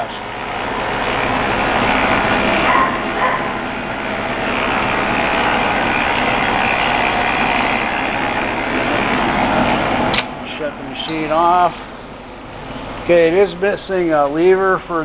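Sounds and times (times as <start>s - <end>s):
metal lathe whirring: 0.0s - 15.0s.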